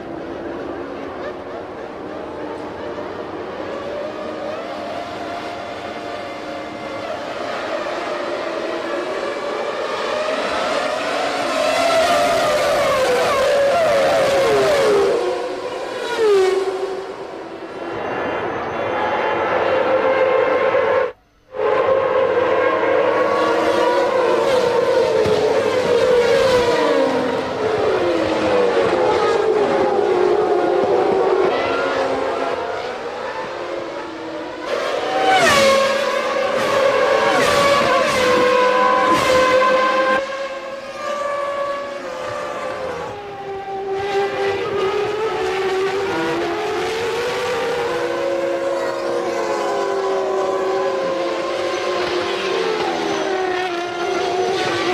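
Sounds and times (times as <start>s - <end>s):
racing car engines at high revs: 0.0s - 54.9s.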